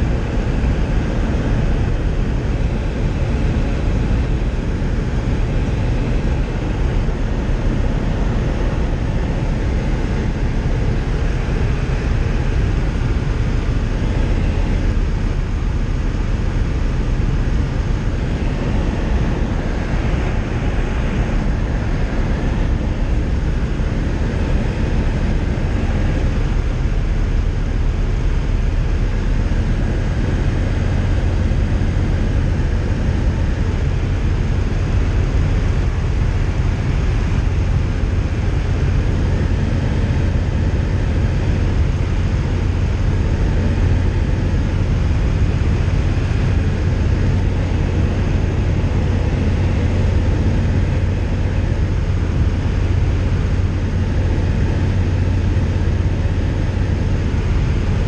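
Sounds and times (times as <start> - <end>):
aircraft engine drone in cockpit: 0.0 - 58.0
rushing airflow: 0.0 - 58.0.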